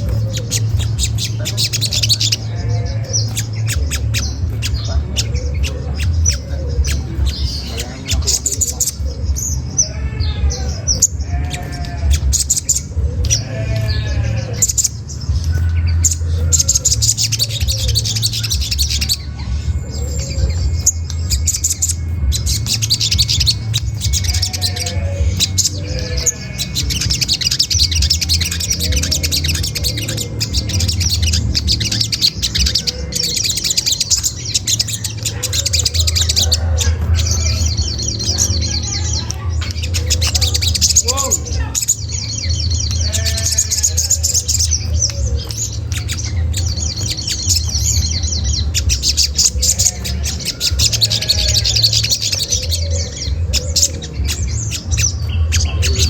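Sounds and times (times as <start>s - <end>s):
lower arching bird calls: 0.0s - 56.0s
steady low hum: 0.0s - 56.0s
sunbirds chattering: 0.0s - 56.0s.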